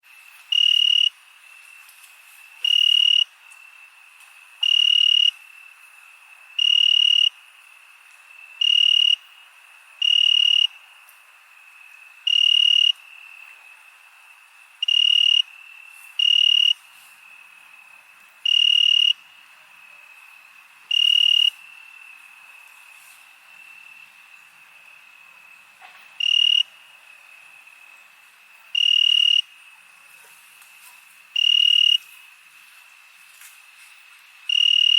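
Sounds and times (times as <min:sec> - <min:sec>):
cricket chirping in bursts: 0:00.1 - 0:34.9
high-pitched cricket trill: 0:00.1 - 0:34.9.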